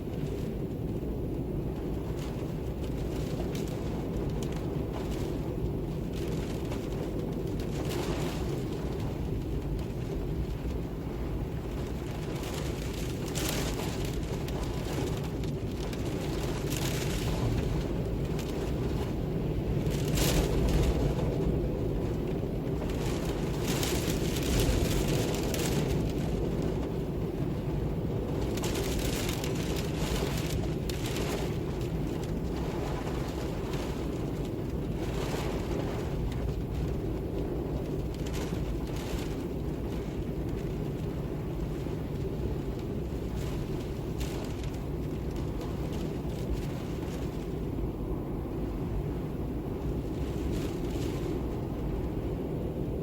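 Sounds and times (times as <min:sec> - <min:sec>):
low wind rumble with gusts: 0:00.0 - 0:53.0.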